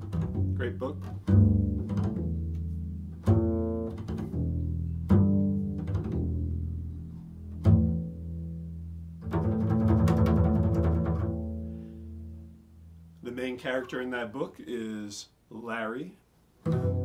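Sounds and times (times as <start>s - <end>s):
double bass plucked notes: 0.0s - 14.1s, 16.6s - 17.0s.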